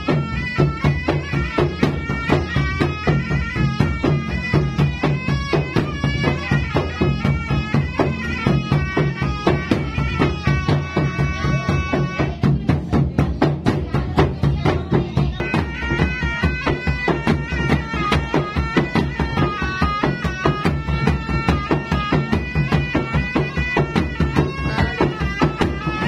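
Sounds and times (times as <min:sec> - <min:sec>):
fast drumming with sticks: 0:00.0 - 0:26.0
reedy shawm melody: 0:00.0 - 0:26.0.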